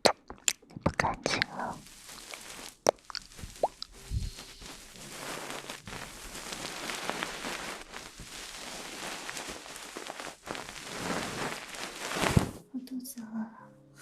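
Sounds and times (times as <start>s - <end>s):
crackling rustle on microphone: 0.8s - 12.8s.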